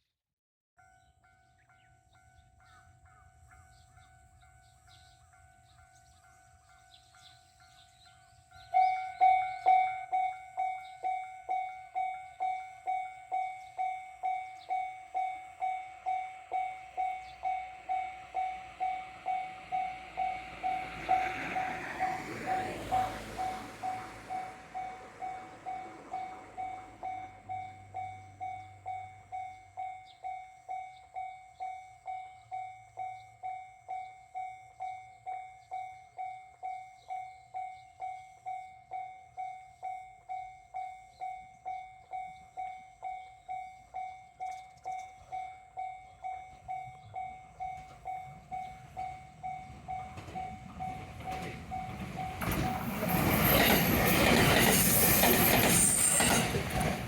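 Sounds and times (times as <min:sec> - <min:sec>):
level-crossing warning bell ringing: 0:00.8 - 0:57.0
train approaching: 0:00.8 - 0:57.0.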